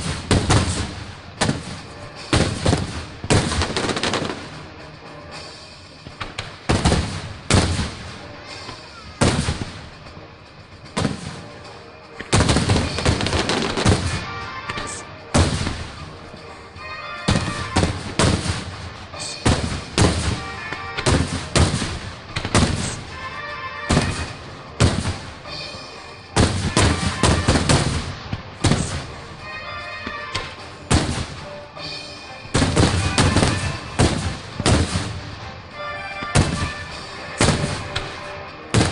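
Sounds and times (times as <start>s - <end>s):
fireworks booming: 0.0s - 4.8s, 6.0s - 16.4s, 17.2s - 23.2s, 23.8s - 25.8s, 26.4s - 29.5s, 30.1s - 31.9s, 32.5s - 38.9s.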